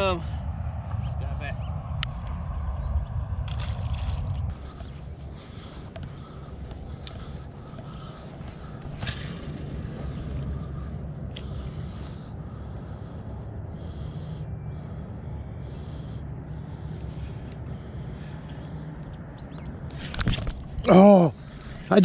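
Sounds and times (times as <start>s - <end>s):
low rumble: 0.0s - 19.9s.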